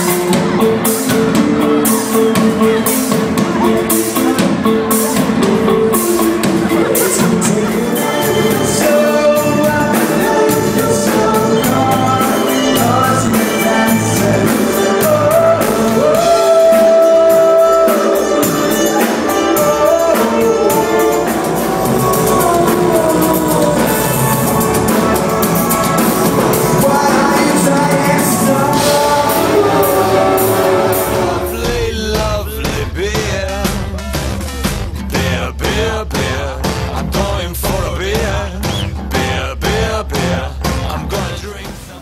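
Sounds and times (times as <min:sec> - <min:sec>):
drums: 0:00.0 - 0:42.0
electric guitars: 0:00.0 - 0:42.0
keyboard: 0:00.0 - 0:42.0
male singer: 0:00.0 - 0:42.0.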